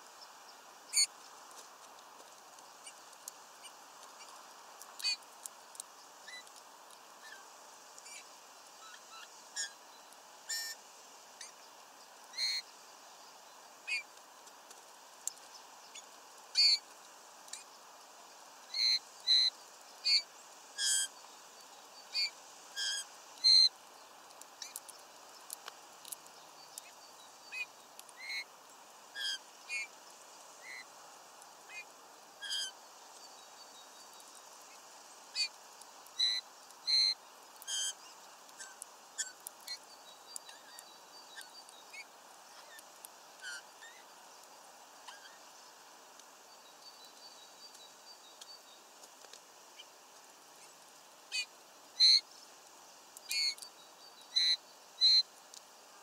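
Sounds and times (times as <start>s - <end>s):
small birds calling: 0.1s - 1.9s, 2.5s - 55.4s.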